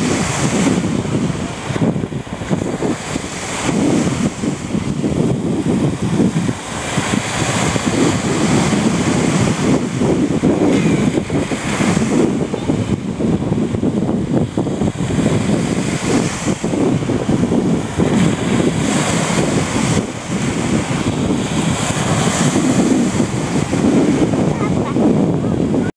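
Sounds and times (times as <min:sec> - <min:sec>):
waves breaking on shore: 0:00.0 - 0:25.9
wind buffeting microphone: 0:00.0 - 0:25.9.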